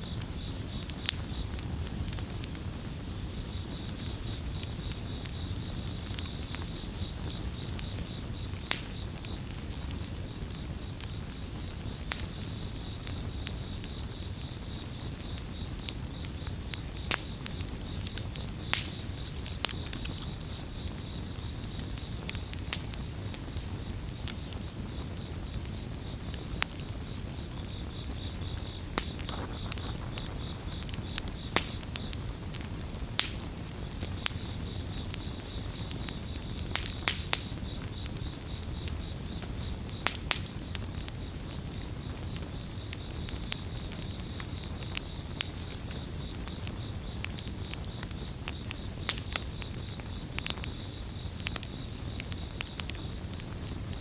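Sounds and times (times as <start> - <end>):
campfire crackling and popping: 0.0 - 54.0
crickets trilling: 0.0 - 54.0.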